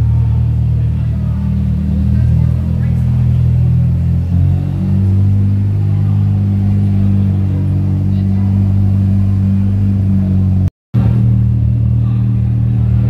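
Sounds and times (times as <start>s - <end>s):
car engine idling low: 0.0s - 13.0s.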